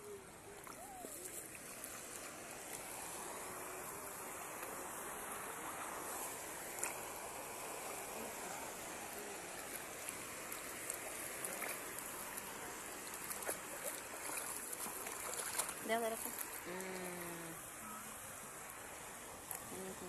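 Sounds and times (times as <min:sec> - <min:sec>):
seawater rushing and lapping: 0:00.0 - 0:20.0.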